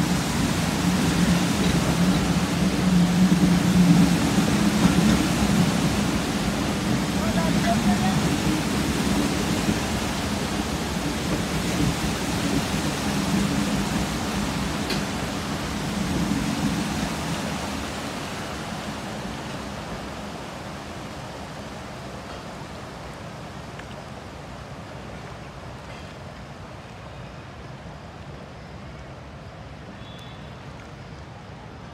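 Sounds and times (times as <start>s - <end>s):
train wheels splashing through water: 0.0s - 26.4s
train rumble: 0.0s - 31.9s.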